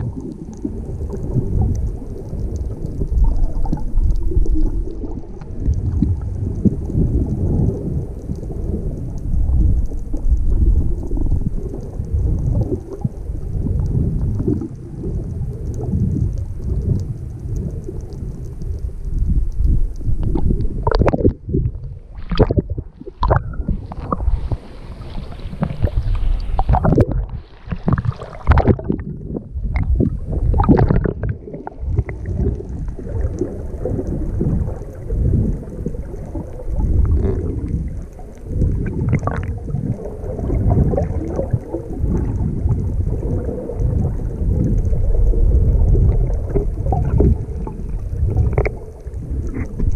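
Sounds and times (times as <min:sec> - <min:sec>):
underwater gurgles and knocks: 0:00.0 - 0:49.9
underwater water rumble: 0:00.0 - 0:49.9.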